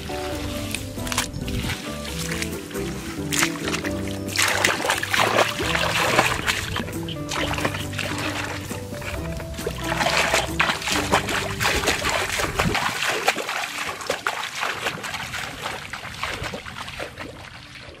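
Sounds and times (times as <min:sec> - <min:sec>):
background music: 0:00.0 - 0:15.8
footsteps splashing in muddy water: 0:00.0 - 0:18.0.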